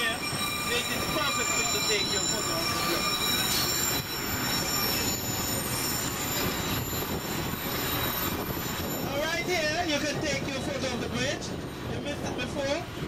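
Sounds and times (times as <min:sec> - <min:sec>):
steel wheels squealing: 0:00.0 - 0:13.0
train wheels rumbling on rail: 0:00.0 - 0:13.0.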